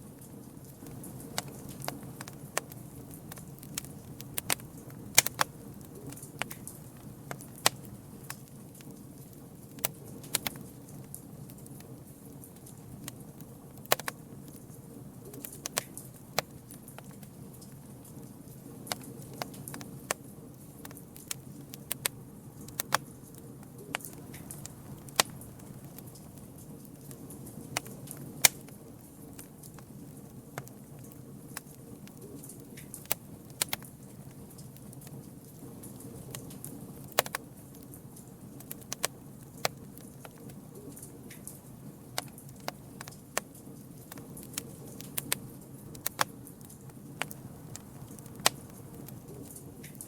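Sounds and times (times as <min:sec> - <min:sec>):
low rush of flames: 0:00.0 - 0:50.0
campfire pops and snaps: 0:00.1 - 0:50.0.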